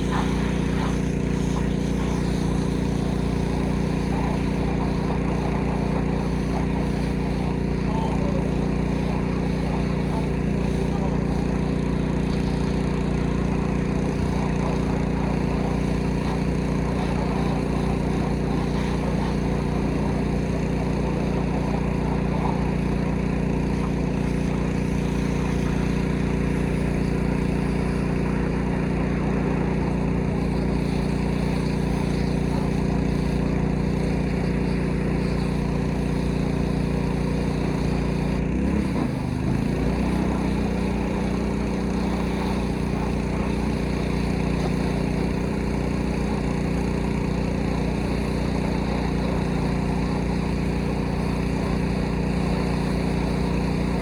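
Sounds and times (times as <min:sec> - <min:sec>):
hiss of water spray: 0:00.0 - 0:54.0
pressure washer engine running: 0:00.0 - 0:54.0.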